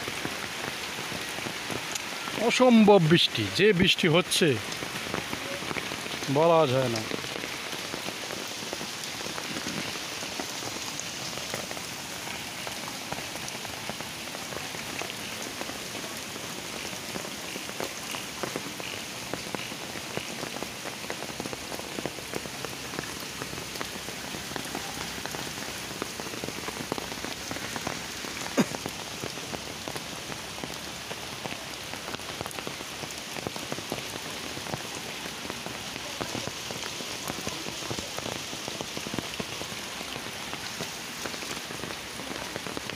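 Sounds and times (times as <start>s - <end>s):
heavy rain on leaves: 0.0s - 42.9s.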